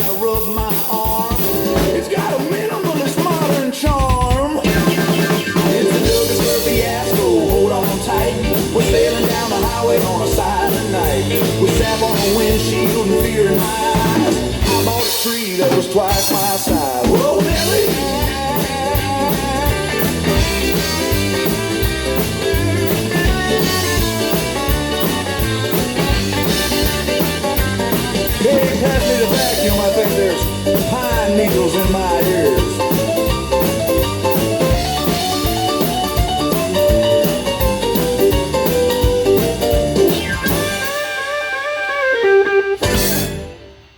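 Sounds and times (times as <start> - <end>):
rockabilly band music: 0.0 - 43.9.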